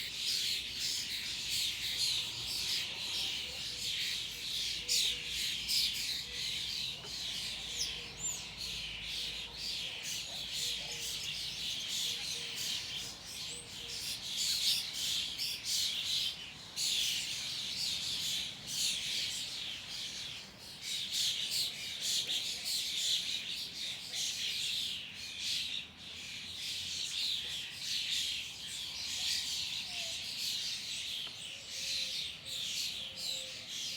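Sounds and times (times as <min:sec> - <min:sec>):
chorus of small birds chirping: 0:00.0 - 0:33.9.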